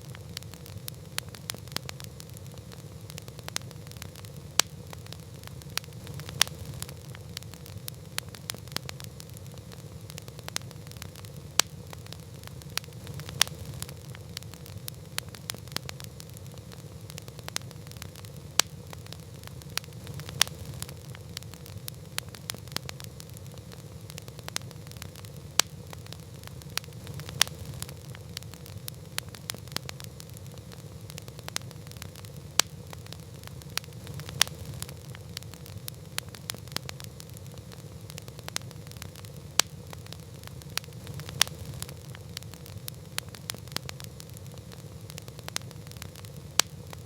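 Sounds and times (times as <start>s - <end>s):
burning wood popping and snapping: 0.0s - 47.0s
low rumble of flames: 0.0s - 47.0s.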